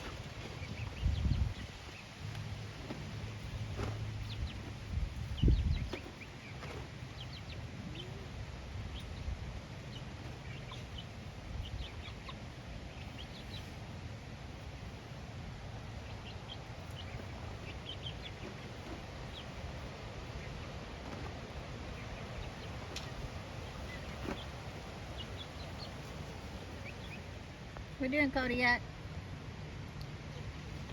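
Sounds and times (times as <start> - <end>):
chickens clucking: 0.0 - 14.0, 15.8 - 27.9
steady low rumble: 0.0 - 30.9.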